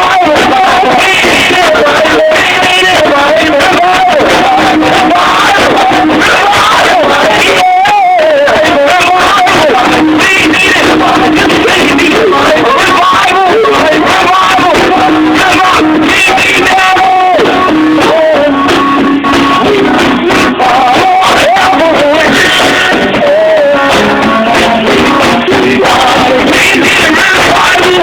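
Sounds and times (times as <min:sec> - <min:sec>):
instrumental accompaniment: 0:00.0 - 0:28.0
man singing: 0:00.0 - 0:28.0.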